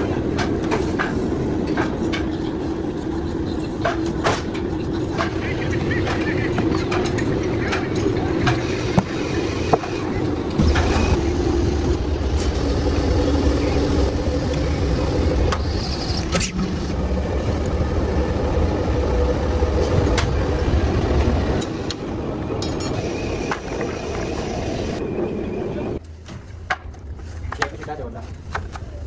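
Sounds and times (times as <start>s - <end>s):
factory machinery humming: 0.0s - 29.0s.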